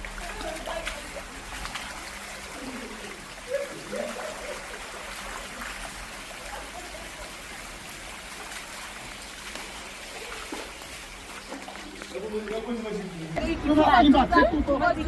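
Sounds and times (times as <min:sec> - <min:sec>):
floodwater rushing: 0:00.0 - 0:13.9.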